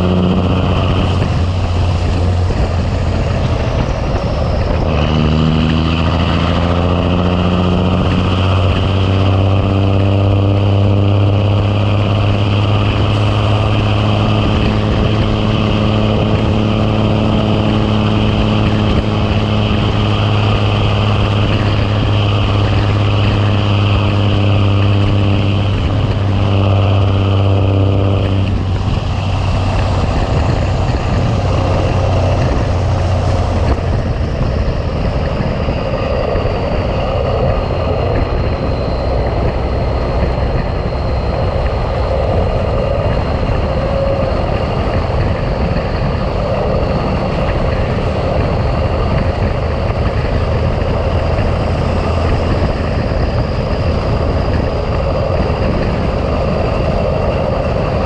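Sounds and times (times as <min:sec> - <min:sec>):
faint high whine: 0:00.0 - 0:58.0
road noise: 0:00.0 - 0:58.0
truck diesel engine drone: 0:00.0 - 0:58.0.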